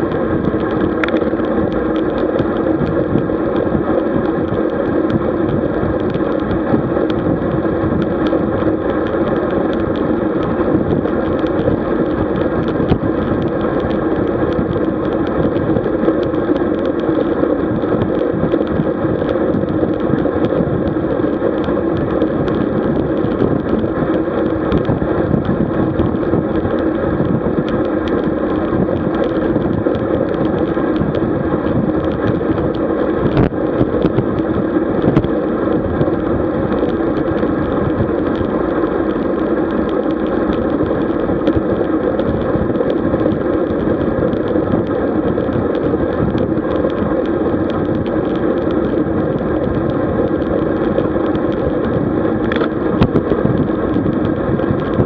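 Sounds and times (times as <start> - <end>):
constant hum: 0.0 - 55.0
wind rushing over microphone: 0.0 - 55.0.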